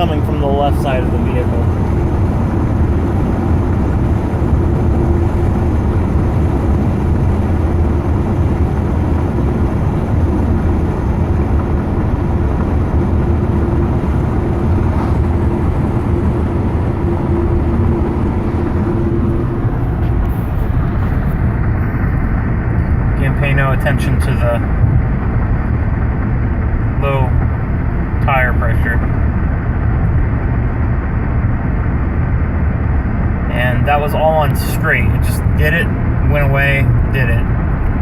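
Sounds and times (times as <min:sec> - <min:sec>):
road and tyre noise: 0:00.0 - 0:38.0.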